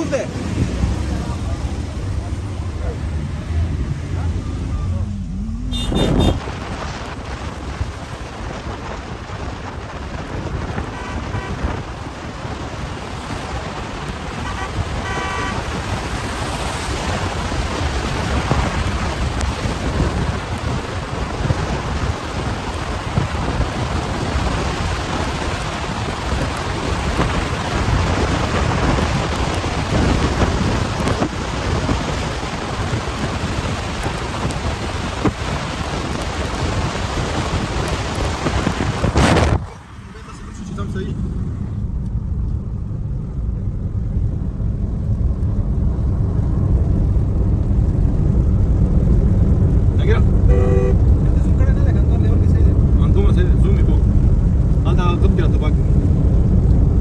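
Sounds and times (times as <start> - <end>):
car driving on wet road: 0.0 - 57.0
wind noise: 0.0 - 57.0.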